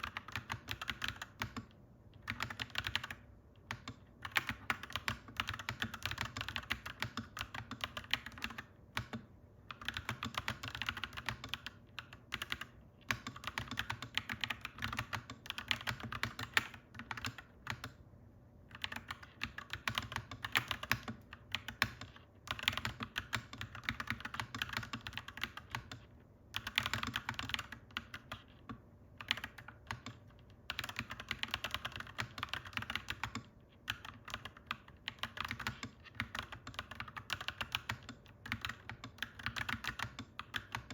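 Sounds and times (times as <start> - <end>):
mechanical keyboard typing: 0.0 - 18.0, 18.6 - 40.9.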